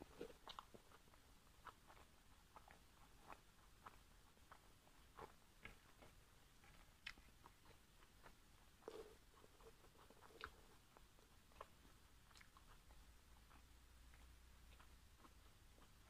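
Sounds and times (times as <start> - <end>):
wet chewing mouth clicks: 0.0 - 16.0.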